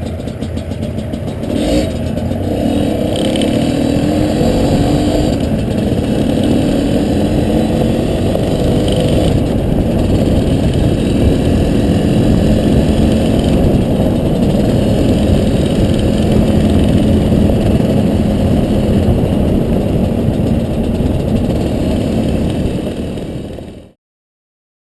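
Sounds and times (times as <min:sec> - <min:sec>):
dirt bike engine running: 0:00.0 - 0:24.0
heavy low rumble: 0:00.0 - 0:24.0.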